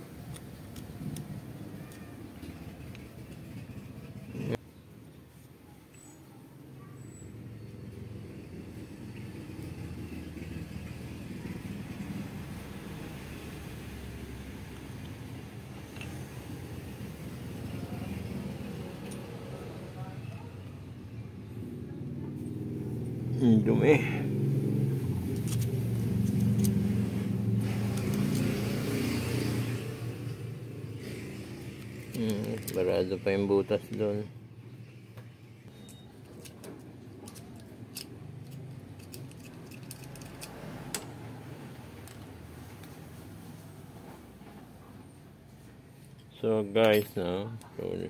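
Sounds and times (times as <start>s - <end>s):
vehicle engine rumble: 7.1s - 46.3s.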